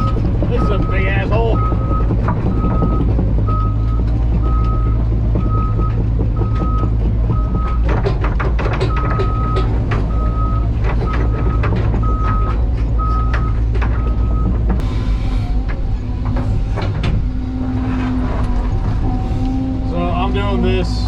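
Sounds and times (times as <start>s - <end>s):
metallic clattering and knocking: 0.0s - 14.9s, 15.5s - 19.7s
excavator engine running: 0.0s - 21.0s.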